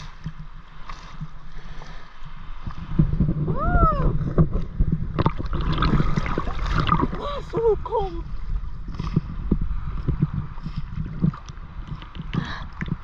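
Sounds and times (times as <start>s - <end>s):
water sloshing and splashing: 0.0s - 3.5s, 4.2s - 13.0s.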